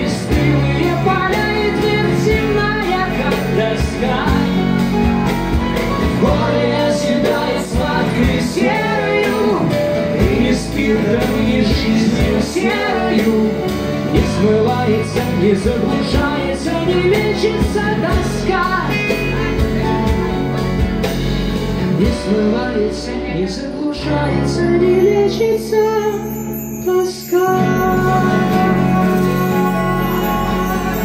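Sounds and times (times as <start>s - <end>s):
man singing: 0.0s - 4.9s, 6.0s - 20.2s, 21.8s - 31.0s
acoustic guitars strummed: 0.0s - 22.8s, 27.6s - 31.0s.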